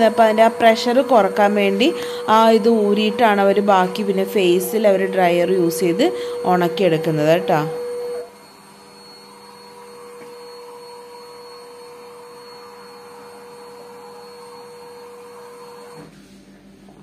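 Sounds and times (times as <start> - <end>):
blow dryer whining: 0.0 - 17.0.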